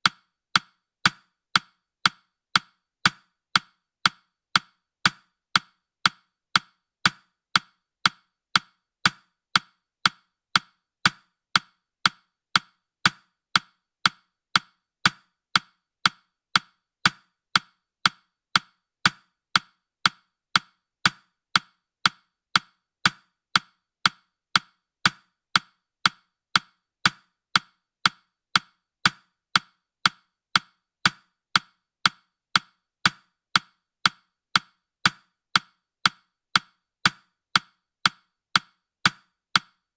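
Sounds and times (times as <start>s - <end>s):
timer ticking clicks: 0.0s - 39.9s.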